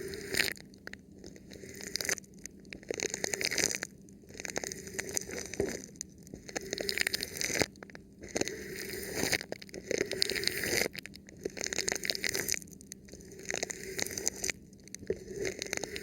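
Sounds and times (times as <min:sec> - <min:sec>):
plastic film crinkling on microphone: 0:02.8 - 0:16.0.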